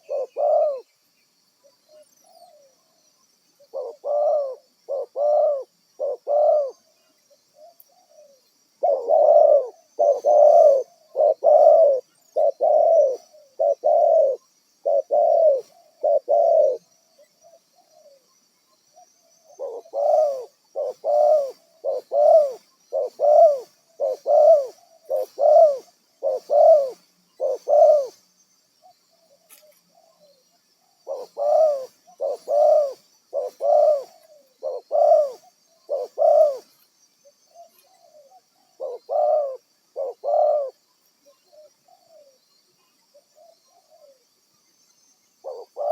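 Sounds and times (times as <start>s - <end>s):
dove cooing: 0.0s - 0.9s, 3.6s - 18.3s, 19.0s - 28.2s, 28.8s - 40.8s, 41.5s - 42.4s, 43.1s - 44.2s, 45.4s - 45.9s.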